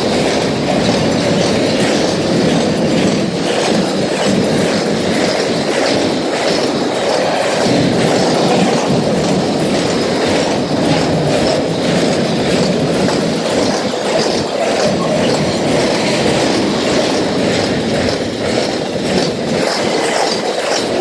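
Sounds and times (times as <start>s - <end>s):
freight train rolling past: 0.0s - 21.0s
wheels clattering on rail: 0.0s - 21.0s.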